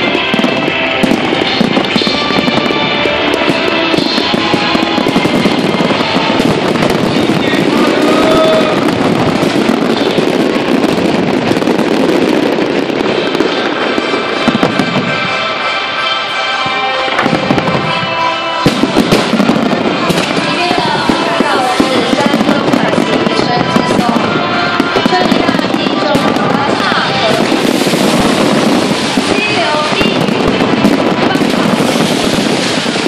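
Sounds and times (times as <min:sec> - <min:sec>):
fireworks bangs: 0:00.0 - 0:33.0
fireworks crackling and popping: 0:00.0 - 0:33.0.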